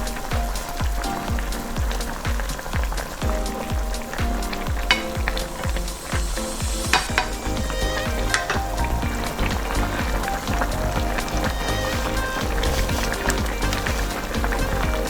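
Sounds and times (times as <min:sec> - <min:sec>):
food sizzling in a pan: 0:00.0 - 0:15.0
music with thumping beat: 0:00.0 - 0:15.0.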